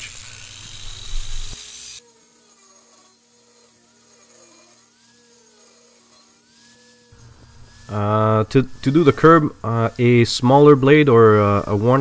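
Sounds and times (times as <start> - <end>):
angle grinder cutting steel: 0.0 - 12.0.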